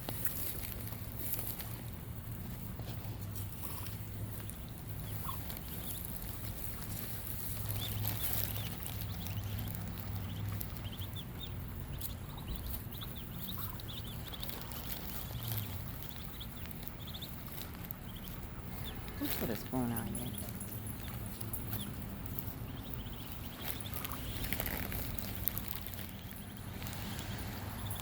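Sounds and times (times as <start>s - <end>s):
ducklings peeping: 0.0s - 28.0s
low steady hum: 0.0s - 28.0s.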